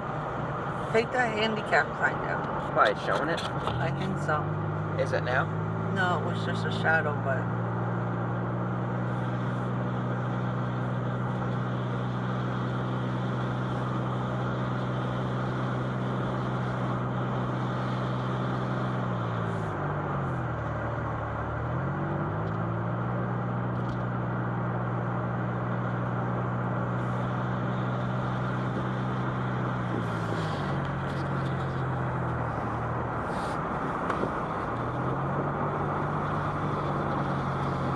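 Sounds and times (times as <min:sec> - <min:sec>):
car engine and tyre hum: 0:00.0 - 0:37.9.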